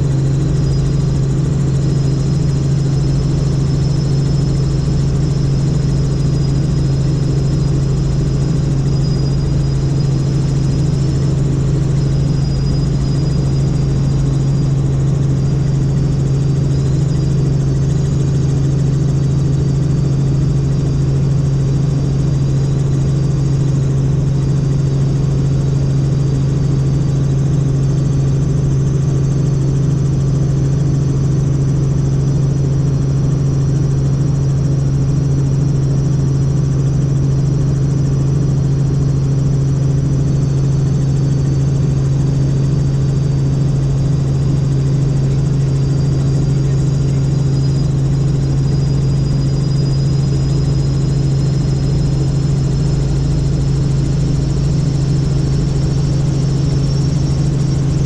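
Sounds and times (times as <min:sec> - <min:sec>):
high whine: 0:00.0 - 0:28.1, 0:33.3 - 0:58.0
helicopter rotor and engine drone: 0:00.0 - 0:58.0.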